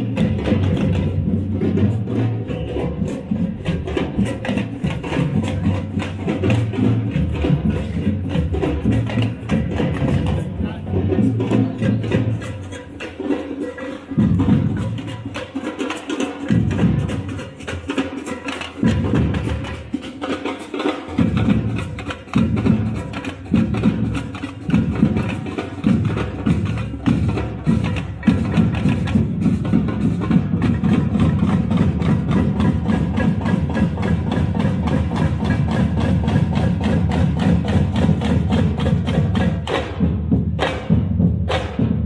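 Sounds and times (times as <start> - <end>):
marching drums playing: 0.0 - 42.0.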